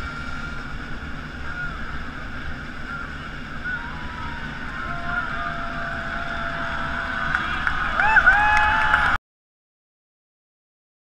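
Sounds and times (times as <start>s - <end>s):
crowd murmuring and chattering: 0.0s - 9.2s
low rumble: 0.0s - 9.2s.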